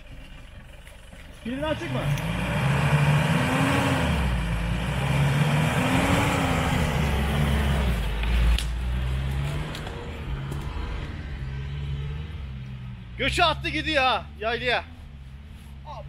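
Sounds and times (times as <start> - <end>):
diesel engine revving: 0.0 - 15.6.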